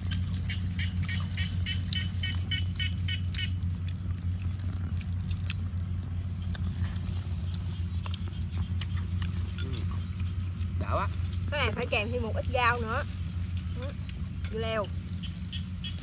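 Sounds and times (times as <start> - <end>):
small clicks and rustles: 0.0 - 16.0
steady low hum: 0.0 - 16.0.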